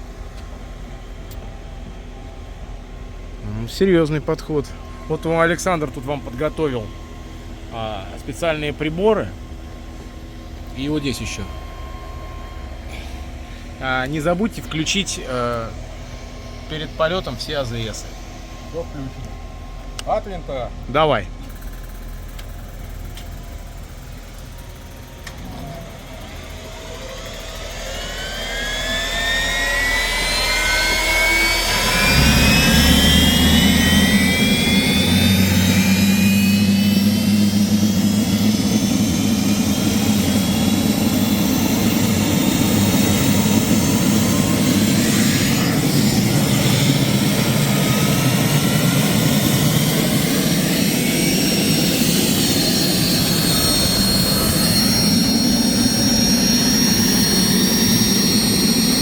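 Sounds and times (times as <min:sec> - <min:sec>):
engine low rumble: 0:00.0 - 0:59.0
helicopter engine whine spooling up: 0:00.0 - 0:59.0
high steady whistle: 0:03.5 - 0:19.8, 0:22.8 - 0:59.0.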